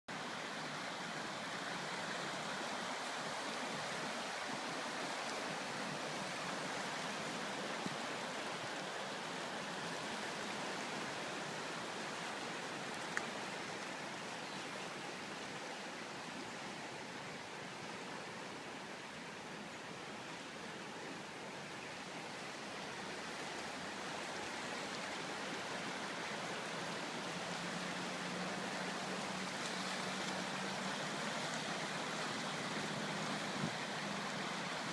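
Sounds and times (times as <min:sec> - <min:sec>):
creek water rushing: 0:00.1 - 0:34.9.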